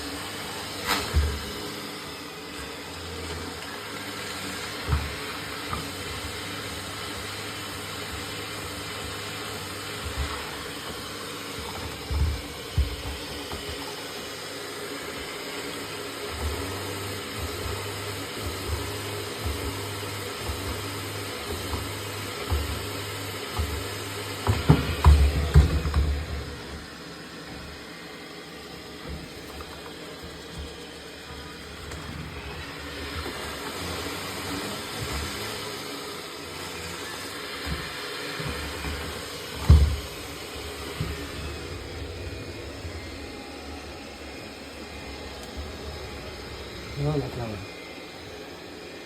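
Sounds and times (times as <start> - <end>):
robot vacuum motor hum: 0.0 - 49.0.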